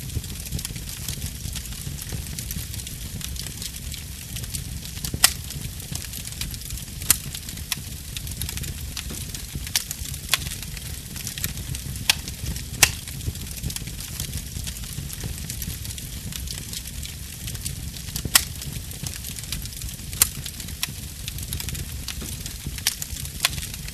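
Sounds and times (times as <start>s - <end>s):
fire flames rumbling: 0.0s - 23.9s
sharp fire pops: 0.0s - 23.9s
wood fire crackling: 0.0s - 23.9s.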